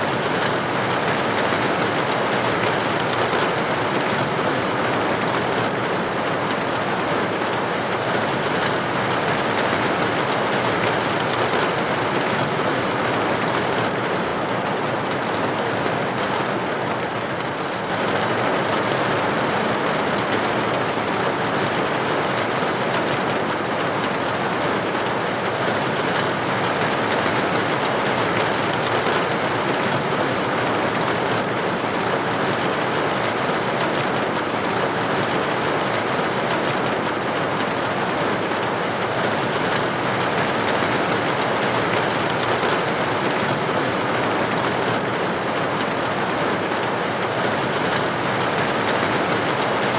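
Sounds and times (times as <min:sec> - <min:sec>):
rain on a window: 0:00.0 - 0:49.9.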